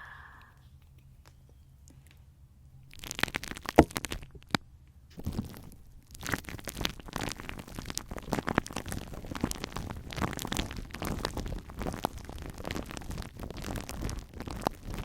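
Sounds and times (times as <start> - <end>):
sticky crackling and popping: 2.8 - 15.0.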